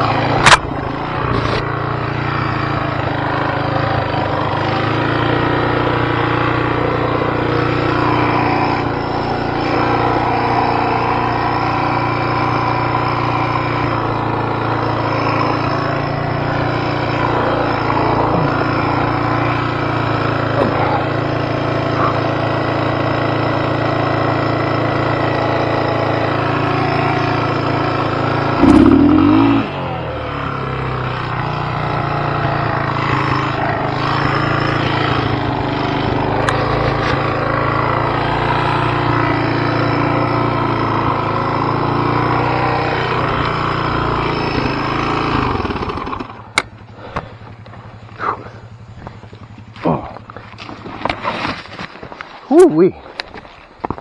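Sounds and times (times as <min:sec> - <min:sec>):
off-road vehicle engine: 0:00.0 - 0:54.0.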